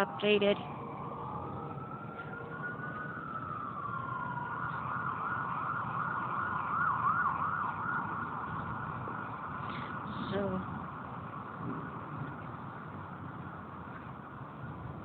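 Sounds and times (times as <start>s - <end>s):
distant emergency siren: 0.0s - 15.0s.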